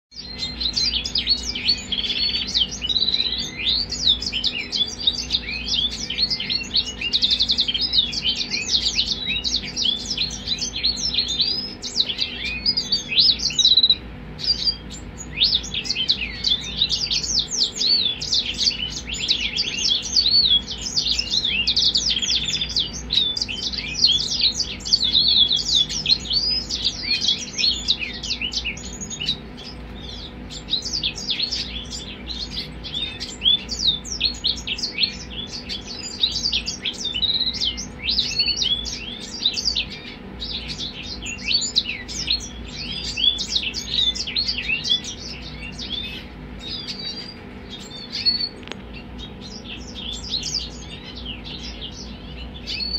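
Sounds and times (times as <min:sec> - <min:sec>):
finches and canary twittering: 0:00.1 - 0:52.9.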